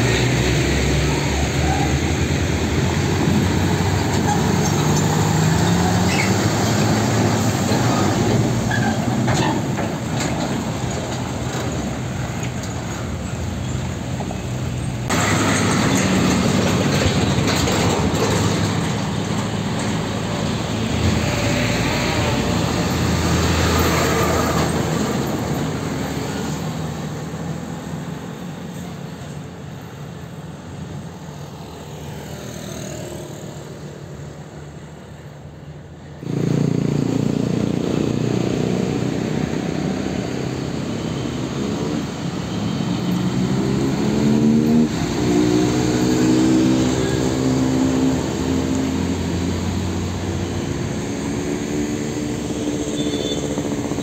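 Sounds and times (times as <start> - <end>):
truck engine running loudly: 0.0 - 27.7, 36.2 - 54.0
diesel truck passing: 0.0 - 34.9, 36.2 - 54.0.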